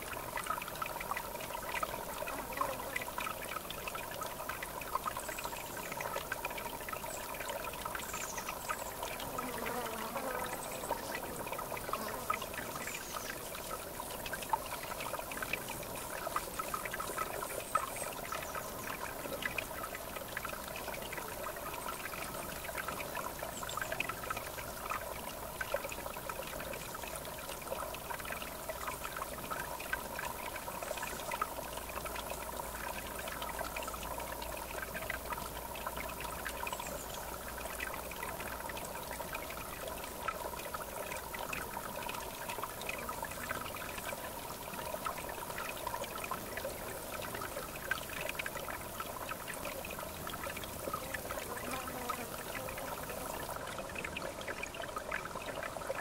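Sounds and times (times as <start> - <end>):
river water trickling and lapping: 0.0 - 56.0.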